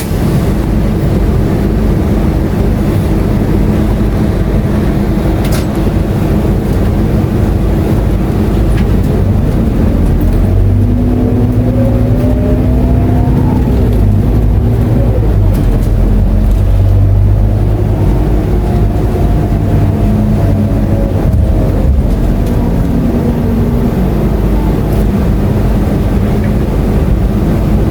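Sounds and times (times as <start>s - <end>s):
bus diesel engine: 0.0s - 27.9s.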